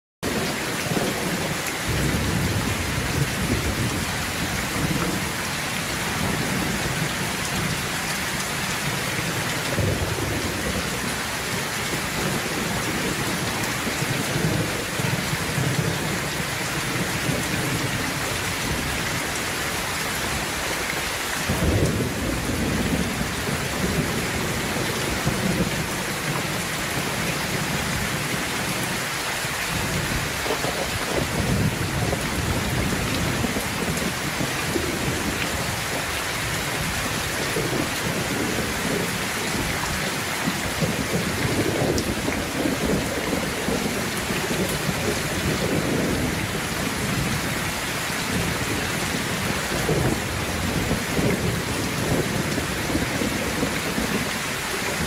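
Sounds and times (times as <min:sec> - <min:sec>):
steady rain falling: 0:00.2 - 0:55.0.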